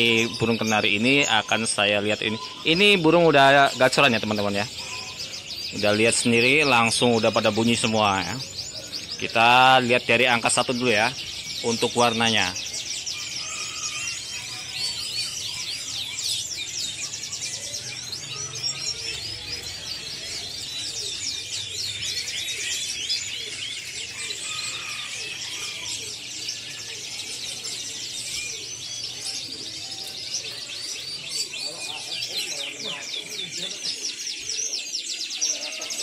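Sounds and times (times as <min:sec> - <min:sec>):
canaries singing: 0:00.0 - 0:36.0.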